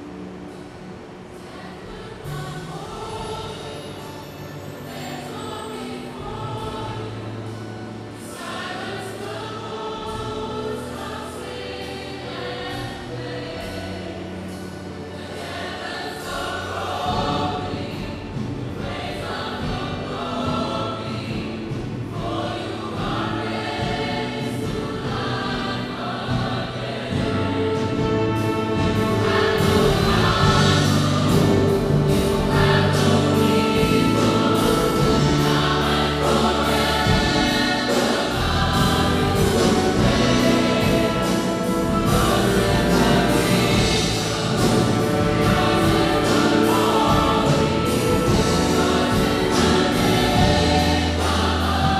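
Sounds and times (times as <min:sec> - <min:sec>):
choir singing gospel music: 0:00.0 - 0:51.9
instrumental accompaniment: 0:00.0 - 0:51.9.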